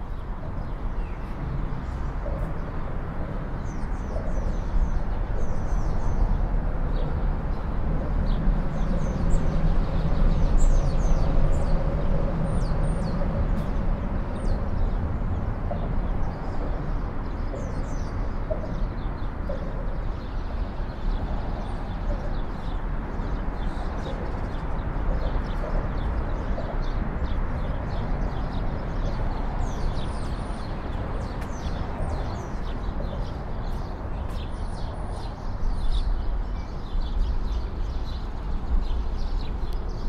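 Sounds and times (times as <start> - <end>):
low rumble of city traffic: 0.0 - 40.0.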